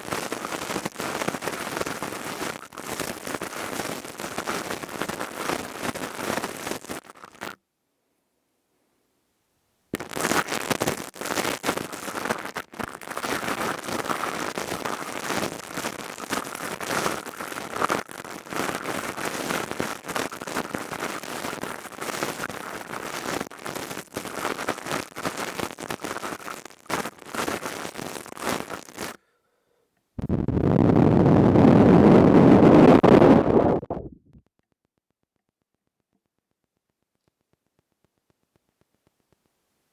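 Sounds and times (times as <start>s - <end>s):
crackling and scratching on microphone: 0.0s - 7.6s, 9.9s - 29.2s, 30.2s - 39.9s.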